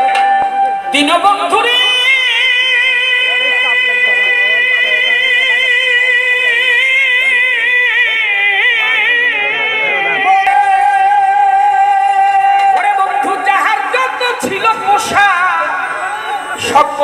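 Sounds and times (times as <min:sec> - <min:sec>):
live folk music: 0:00.0 - 0:17.0.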